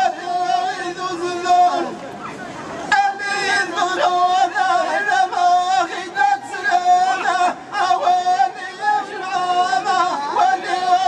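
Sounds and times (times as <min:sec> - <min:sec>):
men chanting in unison: 0:00.0 - 0:02.0, 0:02.9 - 0:11.0.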